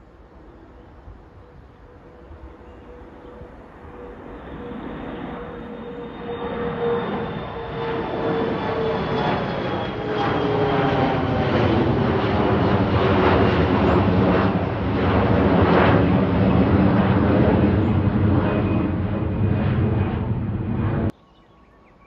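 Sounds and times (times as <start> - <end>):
airliner engines roaring: 0.0 - 21.2
jet engine whine: 0.0 - 21.2.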